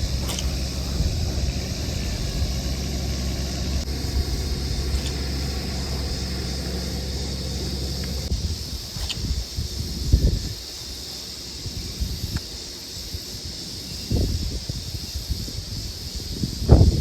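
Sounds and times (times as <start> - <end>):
wind buffeting microphone: 0.0 - 10.7, 14.0 - 17.0.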